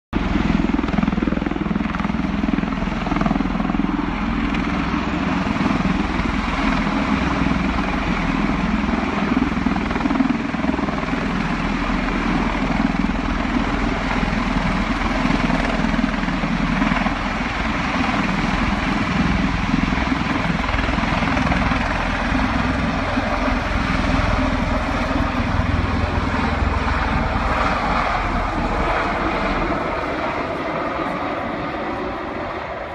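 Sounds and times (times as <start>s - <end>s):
tiltrotor aircraft droning: 0.2s - 32.9s.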